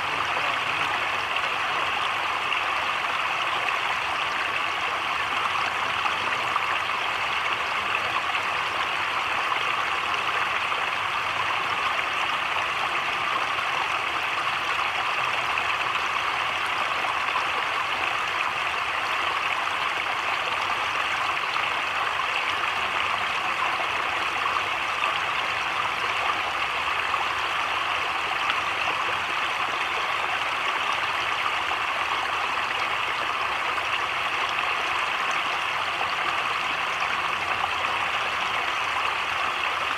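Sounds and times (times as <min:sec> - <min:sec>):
heavy rain on creek and leaves: 0:00.0 - 0:39.9.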